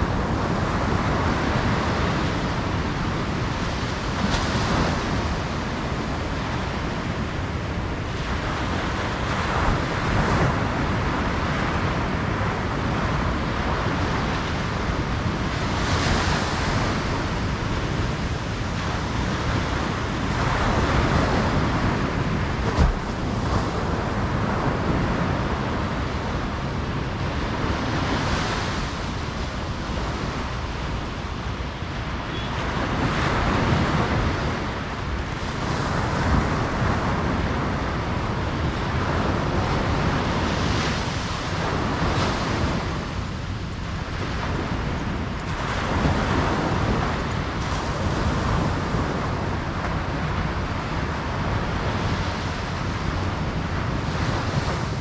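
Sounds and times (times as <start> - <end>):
ocean surf washing onto beach: 0.0 - 55.0
wind rumble on microphone: 0.0 - 55.0.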